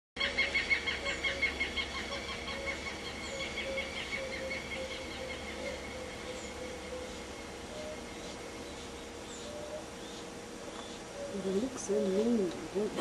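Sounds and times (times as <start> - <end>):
low short bird notes: 0.2 - 11.4
rapid high bird chirps: 0.2 - 11.5.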